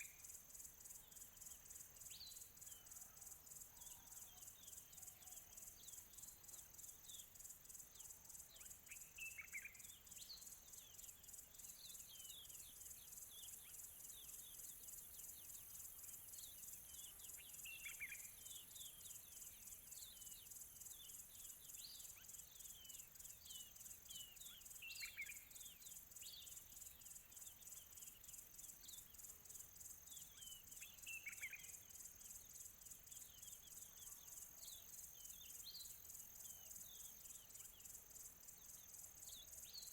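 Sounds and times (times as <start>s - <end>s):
faint crickets chirping: 0.0s - 39.9s.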